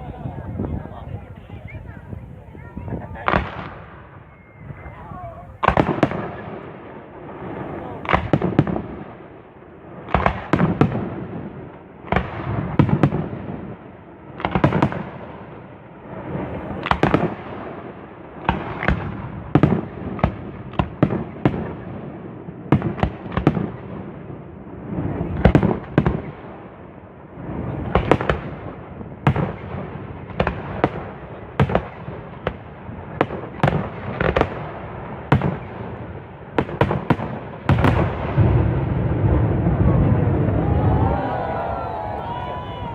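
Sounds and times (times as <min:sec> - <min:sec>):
fireworks bangs: 0:00.0 - 0:42.9
fireworks rumble: 0:00.0 - 0:42.9.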